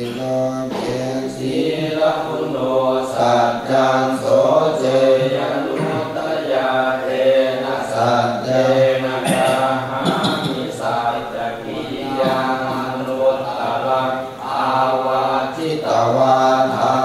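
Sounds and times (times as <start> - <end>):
men chanting verses: 0.0 - 17.0.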